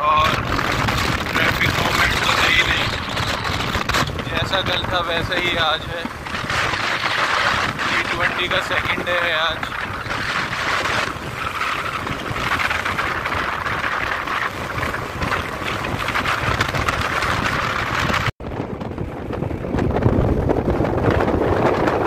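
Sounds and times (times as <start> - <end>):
road and engine noise: 0.0 - 22.0
wind buffeting microphone: 0.0 - 22.0.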